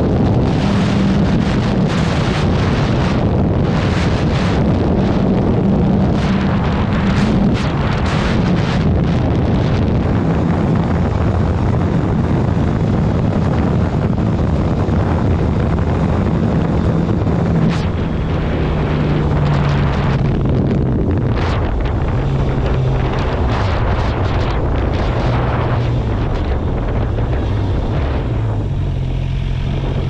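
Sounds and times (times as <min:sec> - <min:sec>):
motorcycle engine at speed: 0:00.0 - 0:30.0
wind buffeting microphone: 0:00.0 - 0:30.0.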